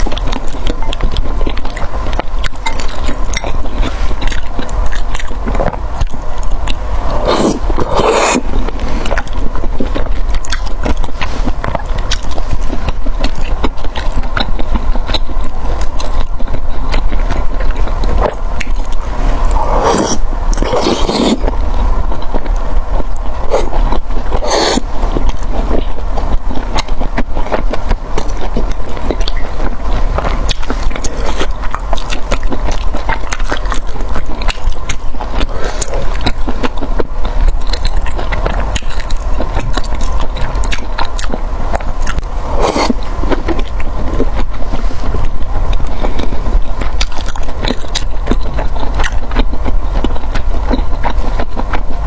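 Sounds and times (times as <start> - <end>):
low rumble: 0.0 - 52.0
person biting and chewing food: 0.0 - 52.0.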